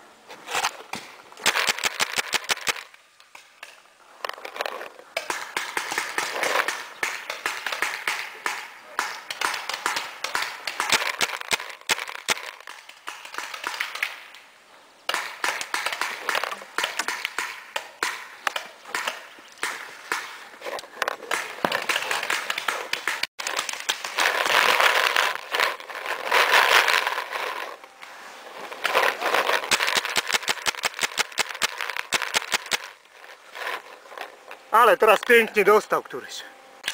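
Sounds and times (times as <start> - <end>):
paintball markers firing: 0.6 - 3.8, 4.5 - 14.4, 15.1 - 27.7, 28.8 - 33.0.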